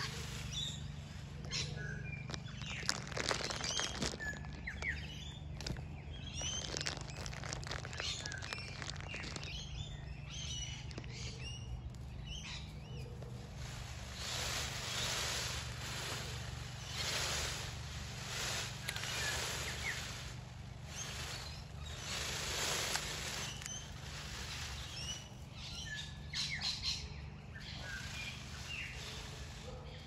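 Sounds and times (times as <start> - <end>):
peacock rattling tail quills: 0.0 - 30.0
rustles: 0.0 - 30.0
small birds chirping: 0.0 - 30.0.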